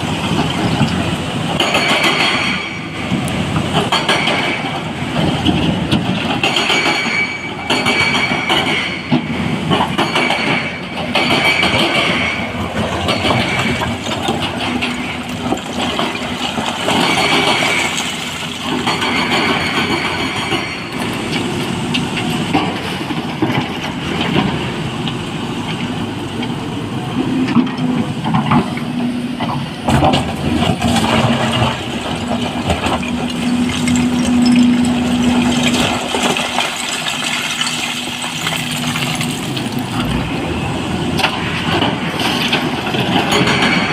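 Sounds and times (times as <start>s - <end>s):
excavator engine and hydraulics: 0.0s - 43.9s.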